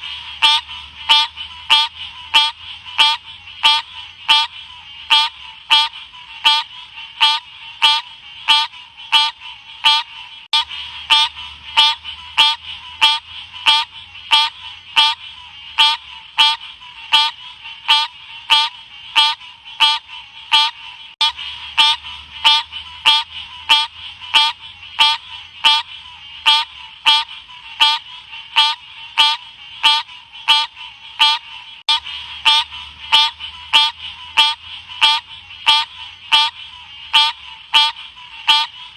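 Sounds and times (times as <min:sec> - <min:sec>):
frog calling: 0:00.0 - 0:38.9.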